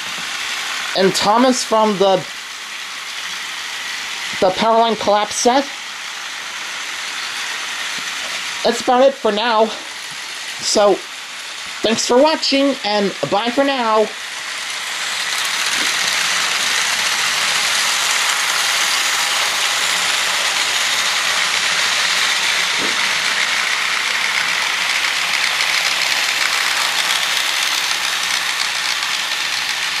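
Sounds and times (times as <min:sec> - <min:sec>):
toy trains whirring and clattering: 0:00.0 - 0:30.0.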